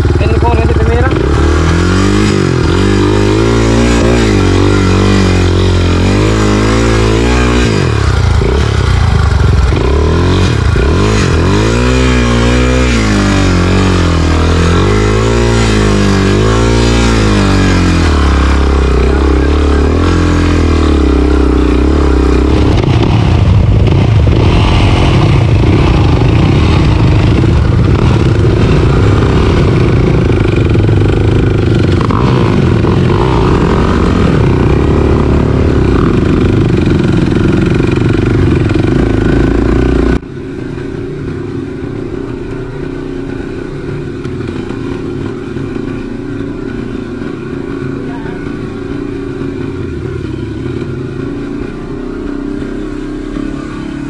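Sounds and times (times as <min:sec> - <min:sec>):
dirt bike engine revving: 0:00.0 - 0:40.2, 0:41.0 - 0:54.0.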